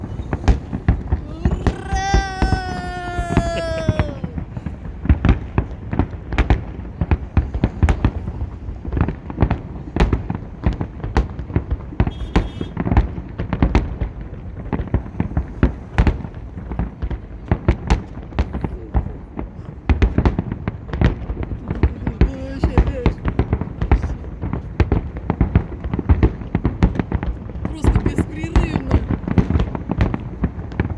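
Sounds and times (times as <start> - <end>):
deep fireworks booms: 0.0 - 30.9
fireworks bangs and pops: 0.0 - 30.9.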